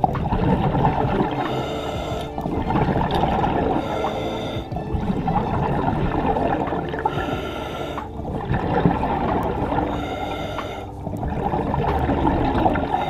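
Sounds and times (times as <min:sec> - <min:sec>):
underwater breathing bubbles: 0:00.0 - 0:13.0.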